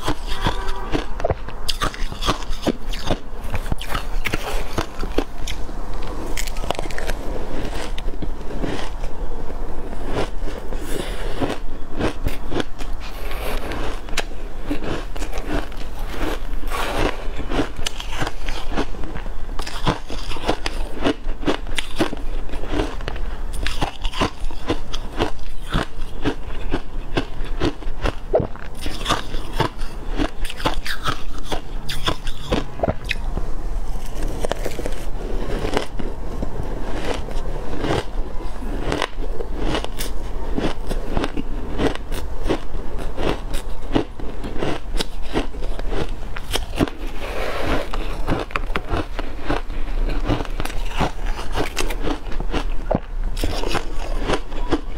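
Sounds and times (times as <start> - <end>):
crunching shaved ice: 0.0 - 54.9.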